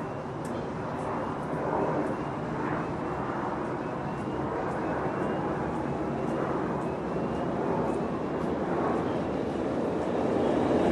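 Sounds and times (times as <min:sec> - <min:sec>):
jet plane passing overhead: 0:00.0 - 0:10.9.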